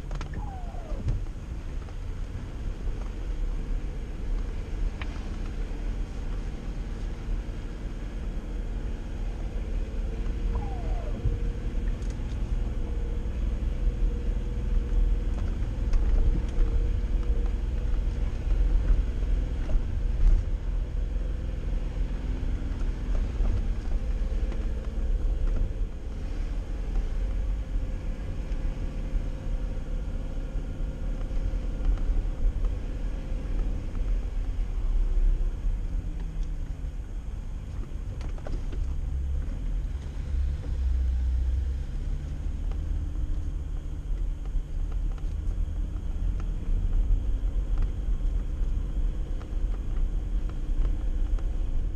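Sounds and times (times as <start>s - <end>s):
vehicle engine low rumble: 0.0s - 51.9s.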